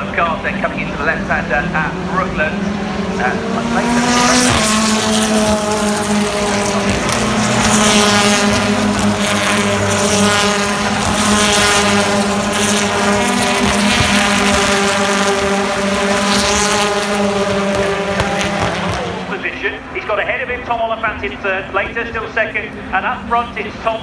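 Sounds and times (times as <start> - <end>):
racing car engines droning: 0.0 - 24.0.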